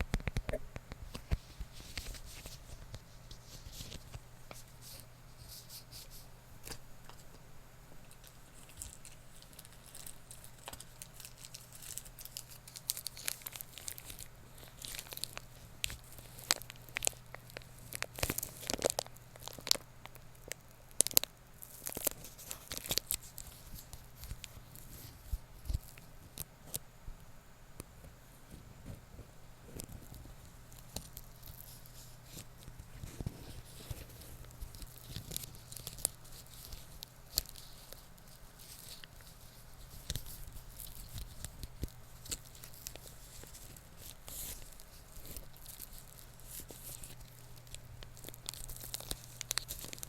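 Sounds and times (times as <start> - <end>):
material crinkling and crackling: 0.0 - 7.4, 8.0 - 26.8, 27.8 - 50.0
faint low hum: 0.0 - 50.0.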